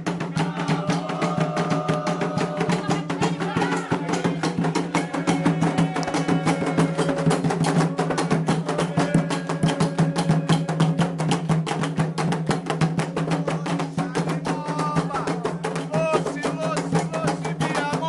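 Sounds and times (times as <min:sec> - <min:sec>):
hand drums: 0:00.0 - 0:18.0
struck bell percussion: 0:00.0 - 0:18.0.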